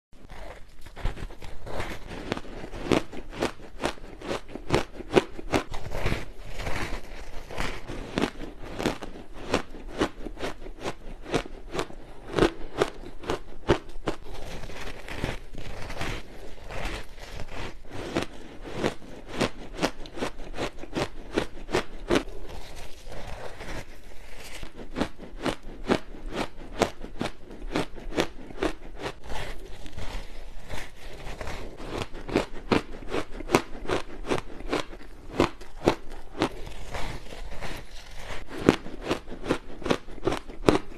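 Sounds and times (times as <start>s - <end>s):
ice being chewed with crunches: 0.2s - 40.9s.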